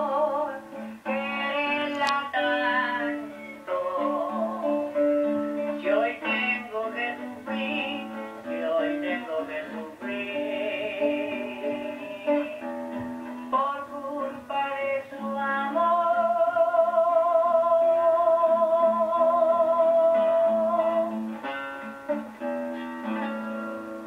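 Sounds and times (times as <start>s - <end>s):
man singing: 0.0s - 5.0s, 5.6s - 12.7s, 13.4s - 21.2s
acoustic guitar plucking: 0.0s - 24.0s.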